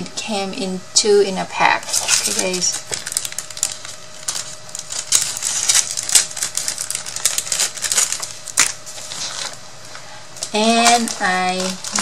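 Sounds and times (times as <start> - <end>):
plastic bag crinkling: 1.7 - 12.0.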